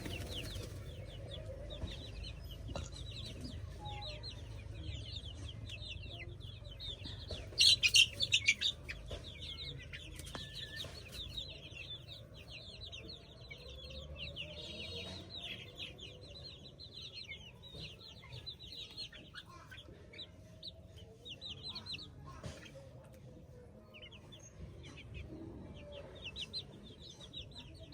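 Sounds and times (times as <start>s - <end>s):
chicks peeping: 0.0s - 27.9s.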